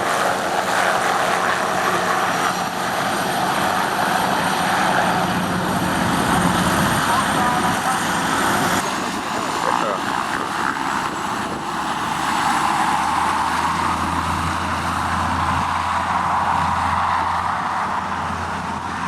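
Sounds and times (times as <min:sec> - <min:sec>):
aircraft engine running: 0:00.0 - 0:19.0.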